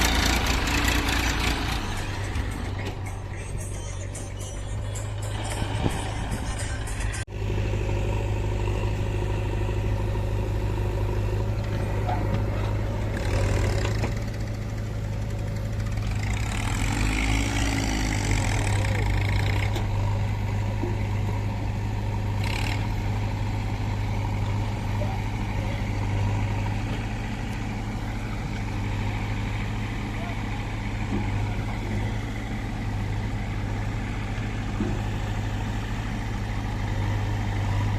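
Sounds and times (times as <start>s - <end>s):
diesel machinery engine running: 0.0s - 37.9s.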